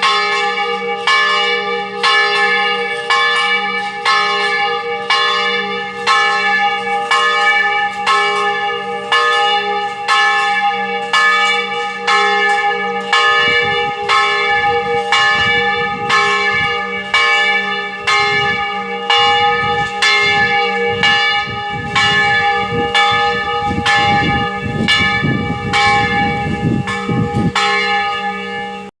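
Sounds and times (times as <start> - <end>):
large church bell ringing: 0.0 - 28.9.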